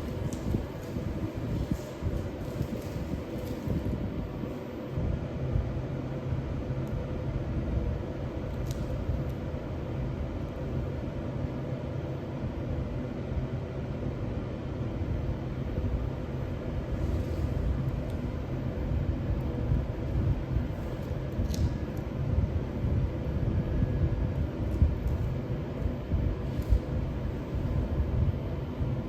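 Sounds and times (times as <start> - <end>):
faint steady hum: 0.0 - 29.0
machinery rumble and hiss: 0.0 - 29.0.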